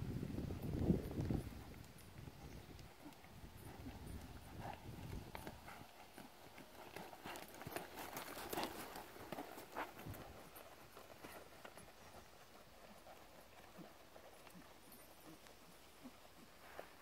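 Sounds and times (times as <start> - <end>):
horse hoofbeats on sand: 0.0 - 17.0.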